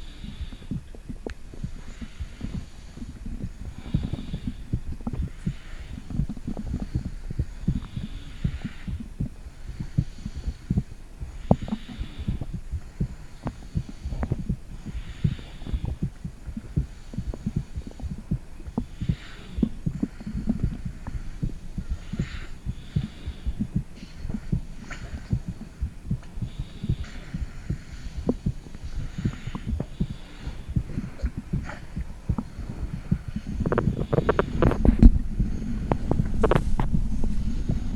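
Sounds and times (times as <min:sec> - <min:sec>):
faint hiss: 0:00.0 - 0:37.9
heartbeat thumps: 0:00.0 - 0:37.9
stomach gurgling: 0:00.0 - 0:37.9.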